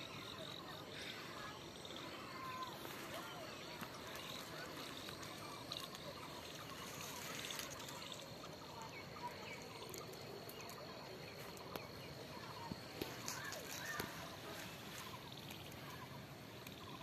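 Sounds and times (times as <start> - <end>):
distant bird chirps: 0.0 - 17.0
steady hiss: 0.0 - 17.0.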